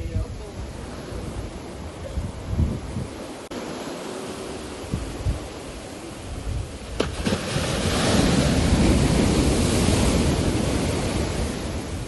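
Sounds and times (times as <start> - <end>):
surf crashing on shore: 0.0 - 12.0
wind buffeting microphone: 0.0 - 12.0.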